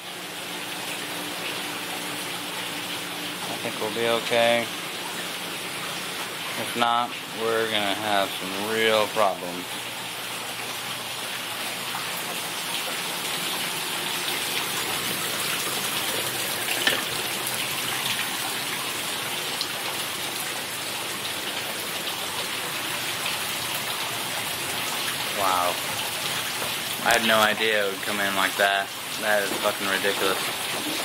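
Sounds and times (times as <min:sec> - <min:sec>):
rainwater pouring and splashing: 0:00.0 - 0:31.0.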